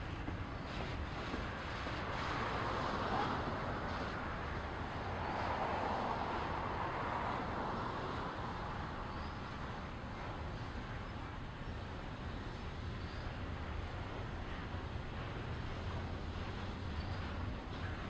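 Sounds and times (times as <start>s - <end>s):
steel train wheels roaring on rails: 0.0s - 18.0s.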